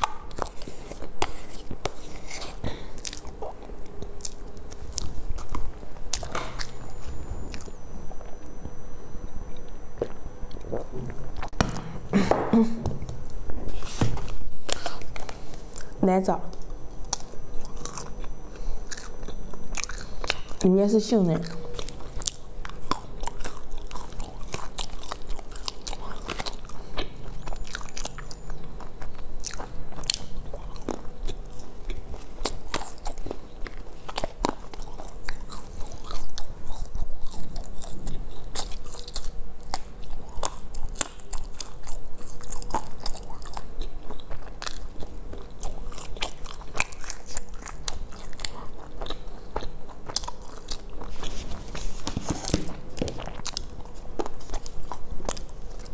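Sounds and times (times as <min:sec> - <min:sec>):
person chewing and crunching: 0:00.0 - 0:12.3, 0:13.0 - 0:55.9.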